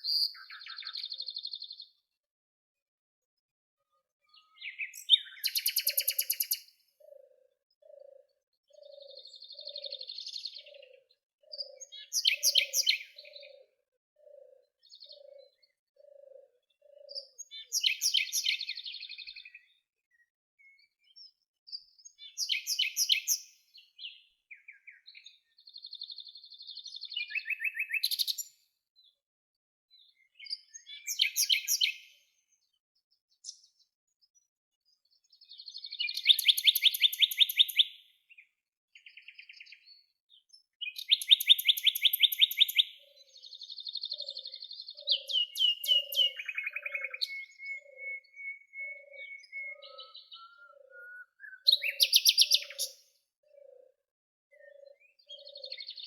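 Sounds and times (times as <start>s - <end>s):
songbirds singing: 0.0s - 2.3s, 3.3s - 29.3s, 29.9s - 56.0s.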